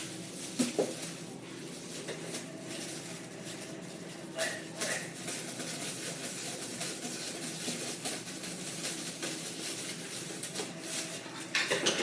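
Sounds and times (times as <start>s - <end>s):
sharp foil crackles: 0.0s - 11.6s
foil blanket crinkling and rustling: 0.0s - 12.0s.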